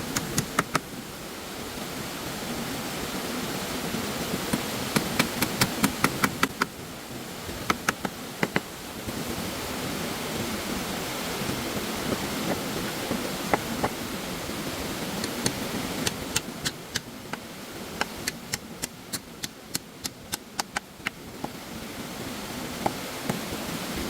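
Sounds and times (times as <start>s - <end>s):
flowing stream water: 0.0s - 24.0s.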